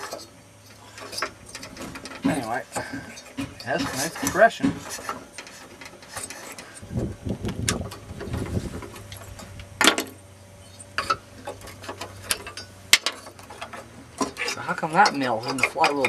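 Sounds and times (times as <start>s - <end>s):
low steady hum: 0.0s - 16.0s
scraping and handling sounds: 0.0s - 16.0s.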